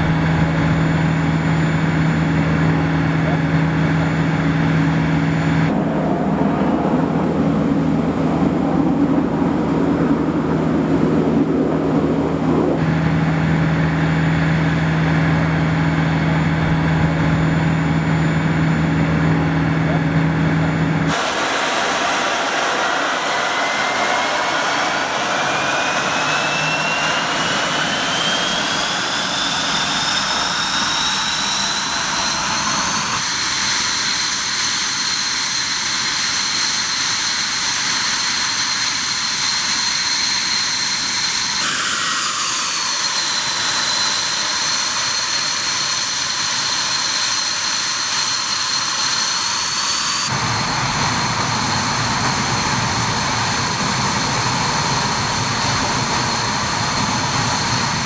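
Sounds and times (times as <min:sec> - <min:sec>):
jet engine whine: 0:00.0 - 0:58.0.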